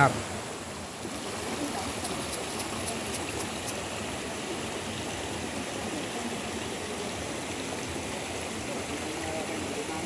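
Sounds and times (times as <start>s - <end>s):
stream water rushing over rocks: 0.0s - 10.0s.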